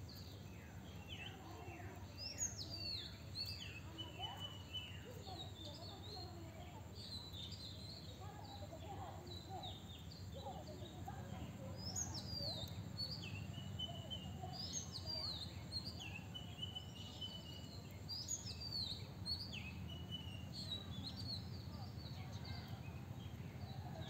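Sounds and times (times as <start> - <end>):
birds chirping and calling: 0.2 - 24.0.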